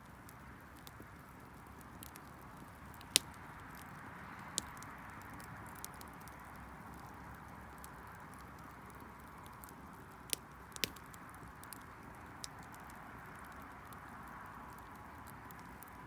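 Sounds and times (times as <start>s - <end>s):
bonfire crackling: 0.0s - 16.0s
sharp pops from fire: 0.0s - 16.0s.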